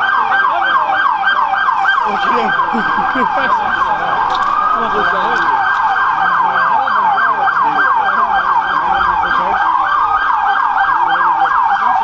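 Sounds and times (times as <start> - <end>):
police siren fast yelp: 0.0 - 12.0
siren rising wail: 0.0 - 12.0.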